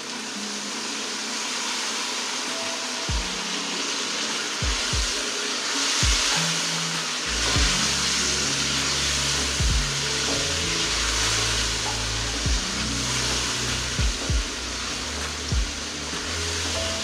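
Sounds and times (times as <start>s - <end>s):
chicken sizzling in oil: 0.0s - 17.0s
soft background music: 0.0s - 17.0s.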